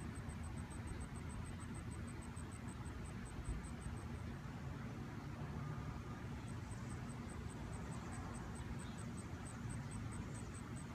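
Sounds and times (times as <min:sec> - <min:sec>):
high-pitched pulsing chirping: 0:00.0 - 0:10.9.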